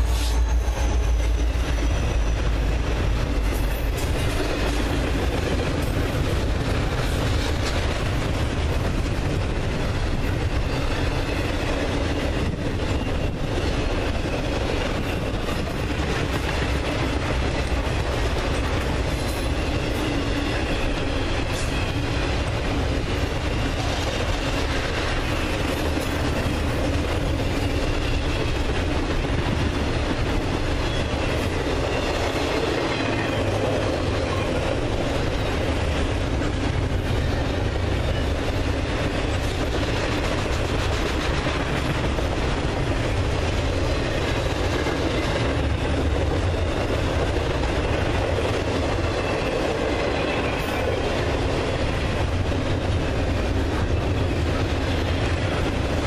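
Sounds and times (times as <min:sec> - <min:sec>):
train wheels running on rails: 0:00.0 - 0:56.0.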